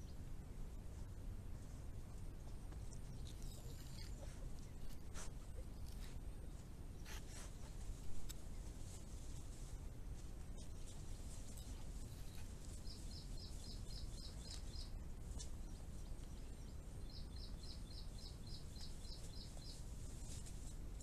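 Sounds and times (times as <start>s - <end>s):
low background hiss: 0.0s - 21.0s.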